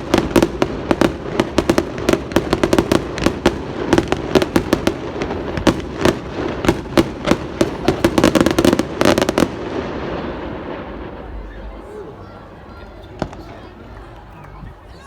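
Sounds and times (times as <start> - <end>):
fireworks cracking and banging: 0.0 - 11.8, 13.0 - 14.3.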